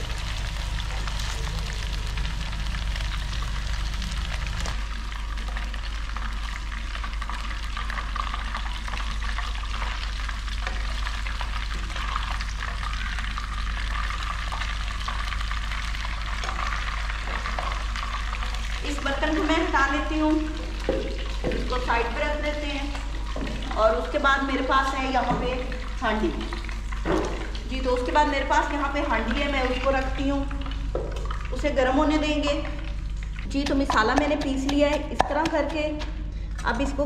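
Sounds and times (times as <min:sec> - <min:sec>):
hot oil crackling and sizzling: 0:00.0 - 0:34.0
steady low hum: 0:00.0 - 0:37.0.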